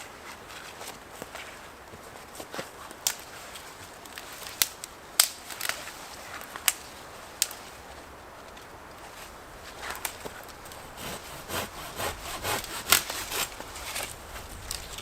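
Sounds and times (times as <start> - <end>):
dry twigs snapping: 2.9 - 15.0.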